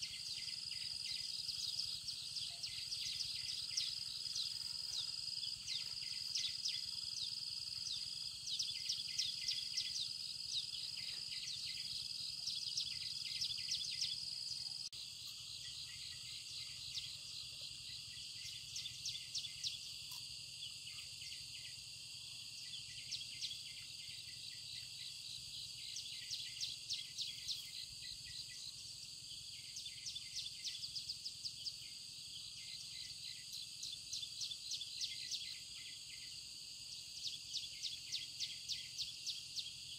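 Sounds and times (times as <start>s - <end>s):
insects trilling: 0.0s - 39.9s
rapid insect chirps: 0.0s - 39.9s.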